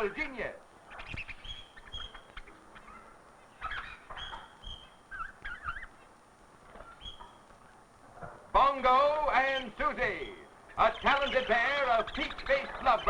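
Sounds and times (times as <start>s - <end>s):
magpie calling: 0.0s - 7.7s, 9.1s - 13.0s.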